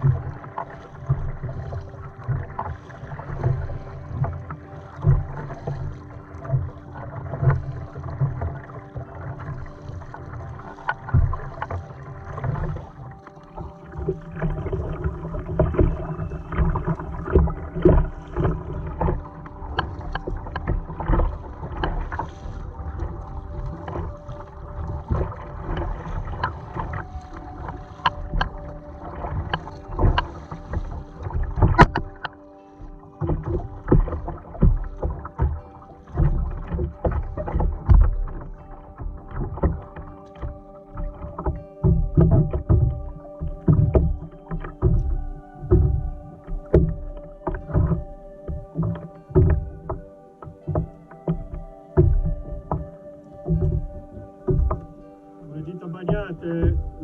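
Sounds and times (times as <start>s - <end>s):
paddle knocking against hull: 0.0s - 57.0s
paddle splashing in water: 0.0s - 57.0s.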